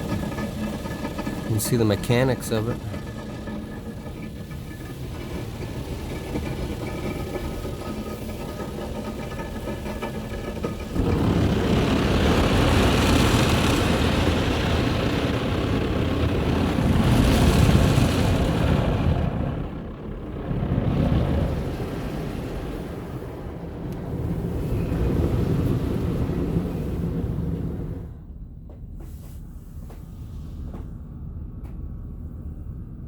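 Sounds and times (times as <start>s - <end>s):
car wash rushing noise: 0.0s - 28.2s
low steady hum: 0.0s - 33.0s.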